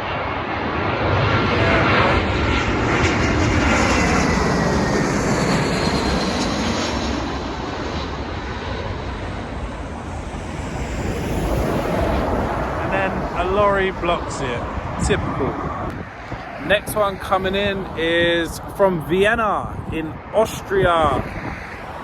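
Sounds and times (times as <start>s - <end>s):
jet airliner passing overhead: 0.0s - 22.0s.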